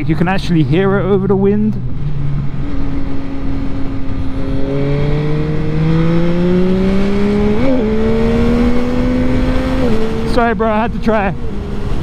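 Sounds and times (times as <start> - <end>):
motorcycle engine accelerating: 1.8 - 12.0.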